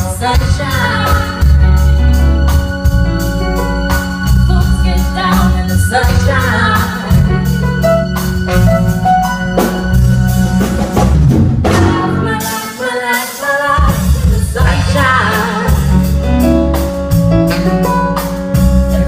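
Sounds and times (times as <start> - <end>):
organ chords: 0.0 - 12.5, 13.8 - 19.0
heavy bass: 0.0 - 12.6, 13.8 - 19.0
steady drum beat: 0.0 - 19.0.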